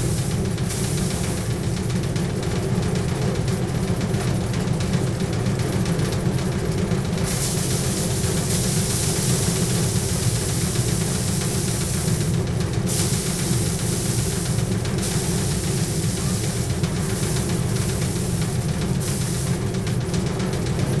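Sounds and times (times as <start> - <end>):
drum thresher rumbling: 0.0 - 21.0
thresher drum rasping and hissing: 0.0 - 21.0.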